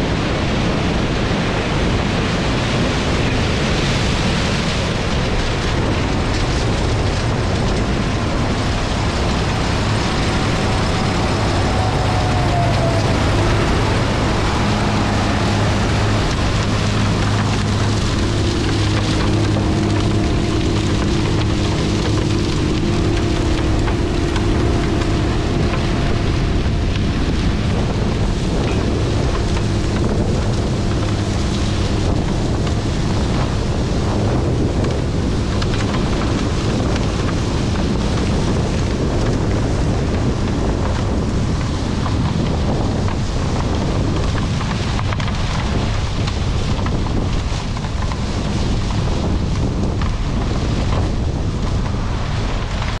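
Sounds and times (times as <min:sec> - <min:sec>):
wind on the microphone: 0:00.0 - 0:53.0
combine harvester humming: 0:05.7 - 0:50.7.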